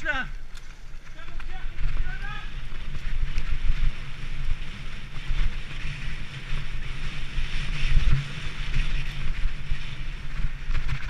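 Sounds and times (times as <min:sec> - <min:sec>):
bike rattling on trail: 0:00.0 - 0:11.0
tyres hissing on dirt trail: 0:00.0 - 0:11.0
wind rumbling on microphone: 0:00.0 - 0:11.0.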